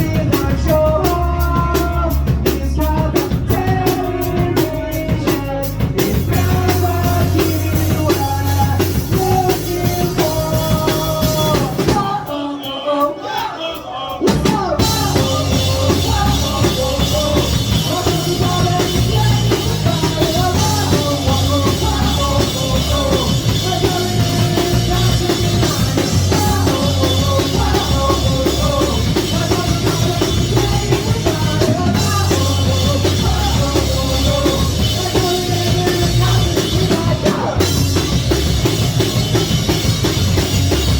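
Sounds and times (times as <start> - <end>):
live rock band playing: 0.0 - 12.6, 14.1 - 40.9
person singing: 0.0 - 38.2
drums: 0.0 - 40.9.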